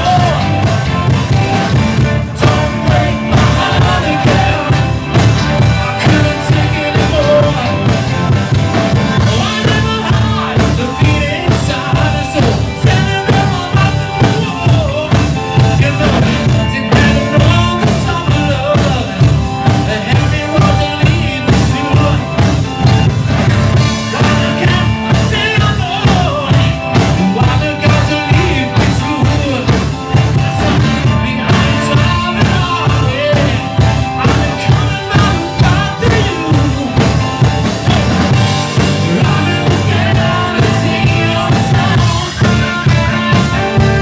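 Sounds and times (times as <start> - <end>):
man singing lead vocal: 0.0 - 23.1, 23.7 - 44.0
bass guitar: 0.0 - 44.0
distorted electric guitars: 0.0 - 44.0
keyboards: 0.0 - 44.0
steady drum beat: 0.0 - 44.0.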